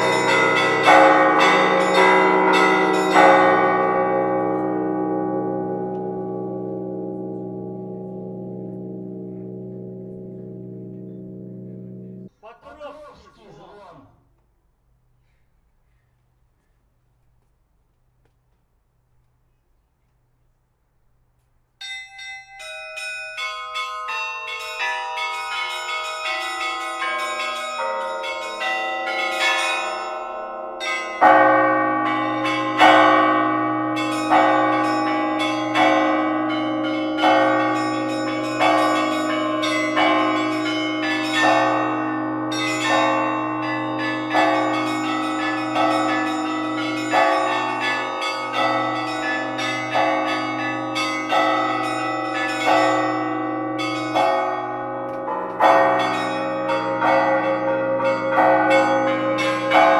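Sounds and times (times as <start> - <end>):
church bells pealing: 0.0 - 12.3, 21.8 - 59.9
deep bell striking: 0.0 - 12.3, 21.8 - 59.9.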